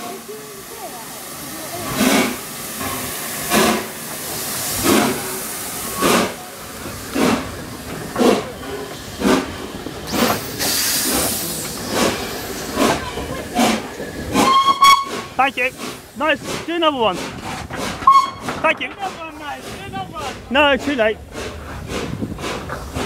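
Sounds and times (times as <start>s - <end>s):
steam hissing: 0.0s - 23.0s
steam locomotive exhaust chuffs: 0.0s - 23.0s.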